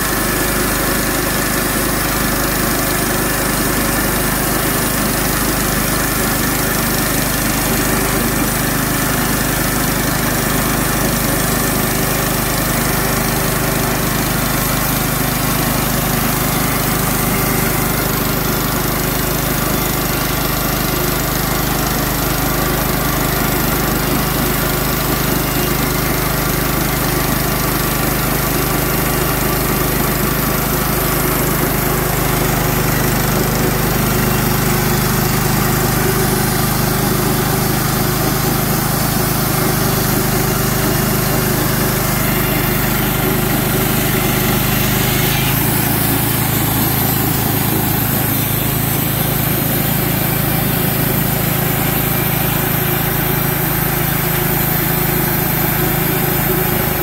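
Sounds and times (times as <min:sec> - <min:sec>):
bandsaw mill cutting log: 0:00.0 - 0:57.0.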